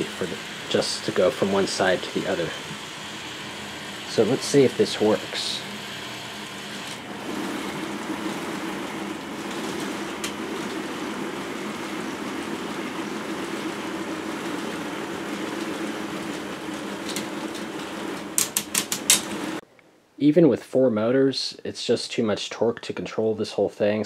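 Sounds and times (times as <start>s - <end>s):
toy motors humming and rattling: 0.0s - 19.4s.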